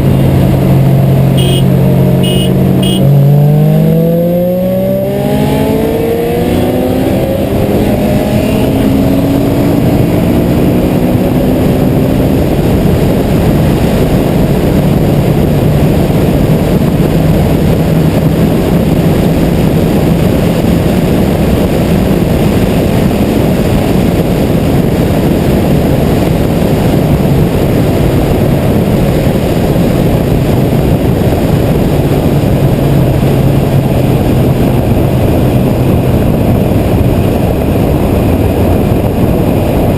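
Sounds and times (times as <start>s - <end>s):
car engine pulling hard: 0.0s - 39.9s
wind and road noise: 0.0s - 39.9s.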